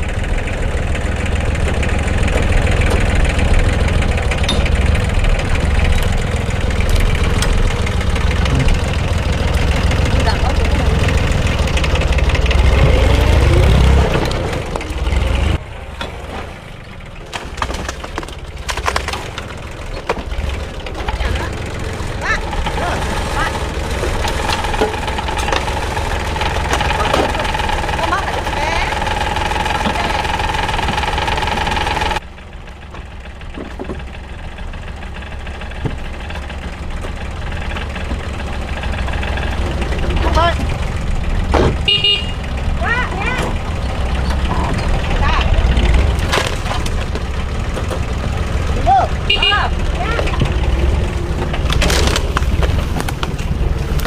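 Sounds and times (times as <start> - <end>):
engine rumbling: 0.0 - 54.0.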